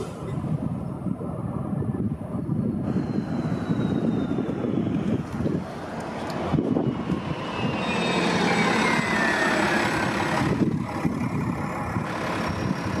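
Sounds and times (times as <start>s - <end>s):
bus passing and pulling away: 0.0s - 13.0s.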